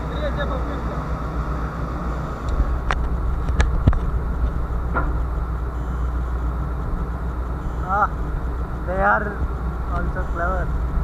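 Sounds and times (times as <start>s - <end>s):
ship deck rumble: 0.0s - 11.0s.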